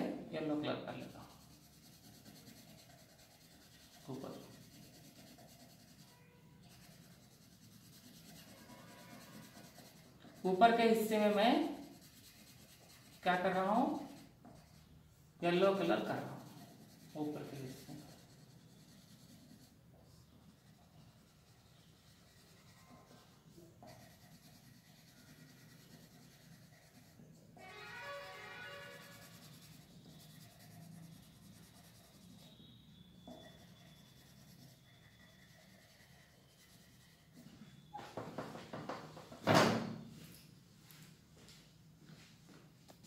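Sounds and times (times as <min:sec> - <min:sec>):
colour pencil scratching on paper: 0:00.0 - 0:38.0.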